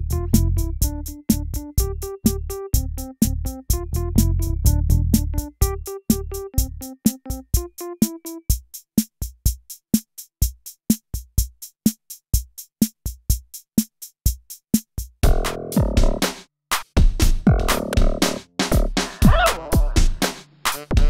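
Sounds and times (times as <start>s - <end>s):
drum machine beat: 0.0s - 21.0s.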